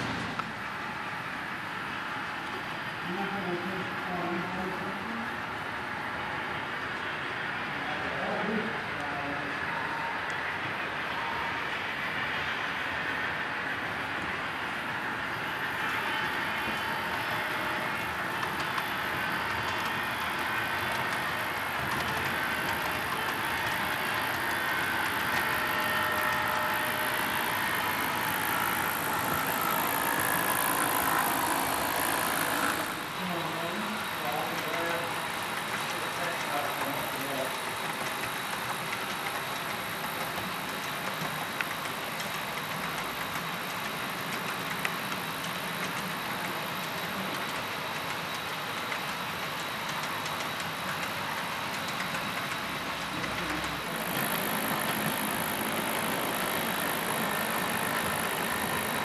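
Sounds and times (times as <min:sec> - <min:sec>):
model train wheels rolling: 0:00.0 - 0:59.0.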